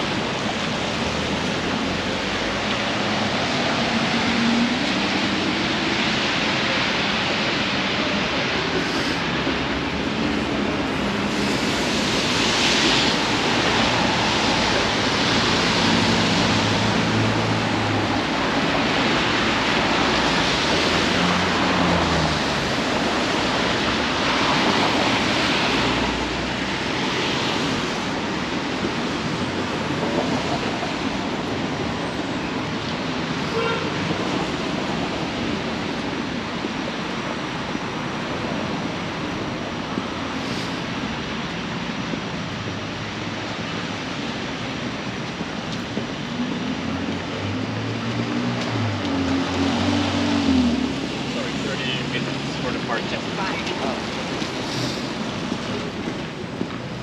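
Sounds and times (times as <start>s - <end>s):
tyres hissing on wet pavement: 0.0s - 57.0s.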